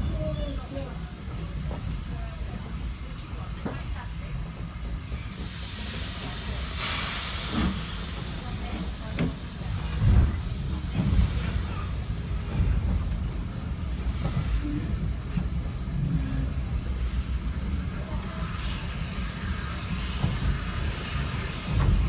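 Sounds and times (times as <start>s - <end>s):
train carriage rumbling on track: 0.0s - 22.0s.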